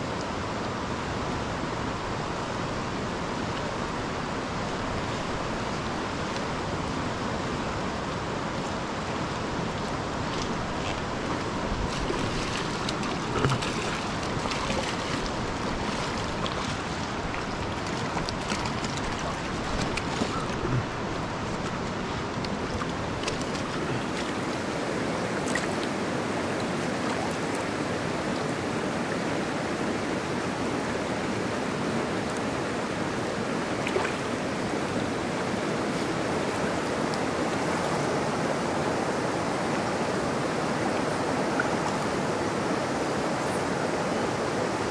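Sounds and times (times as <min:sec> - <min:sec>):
river water over rocks: 0:00.0 - 0:44.9.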